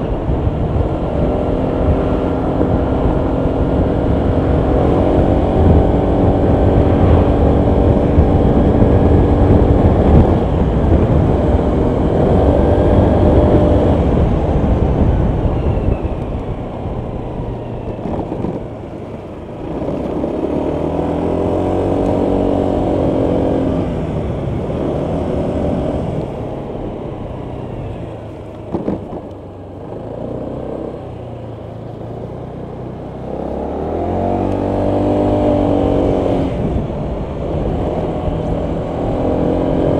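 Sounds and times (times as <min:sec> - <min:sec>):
scooter engine accelerating: 0:00.0 - 0:39.9
wind rumble on microphone: 0:00.0 - 0:39.9.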